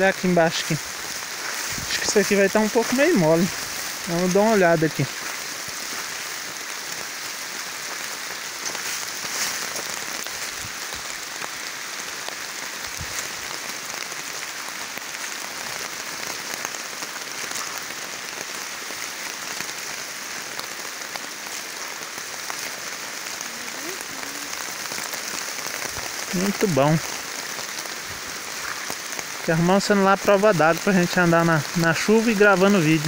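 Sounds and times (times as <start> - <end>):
rain on gravel: 0.0 - 33.0.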